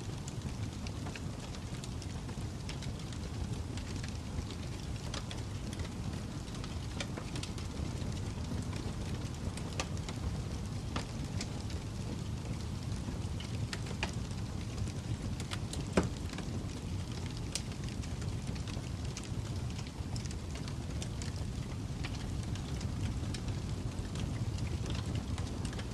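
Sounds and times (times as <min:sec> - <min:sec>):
fire crackling: 0:00.0 - 0:25.9.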